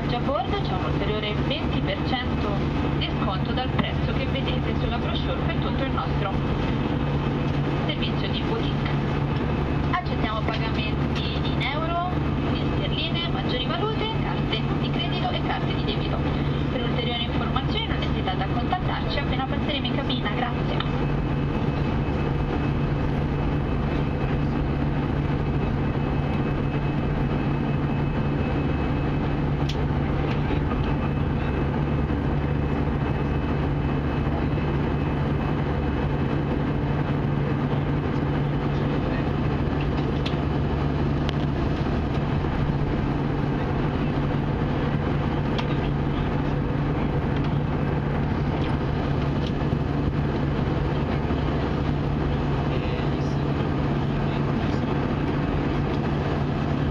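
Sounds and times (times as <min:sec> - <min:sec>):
airplane engine hum in cabin: 0:00.0 - 0:56.9.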